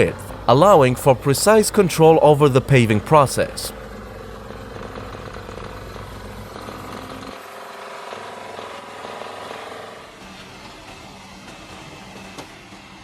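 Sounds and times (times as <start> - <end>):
paving machinery engine rumble: 0.0 - 13.0.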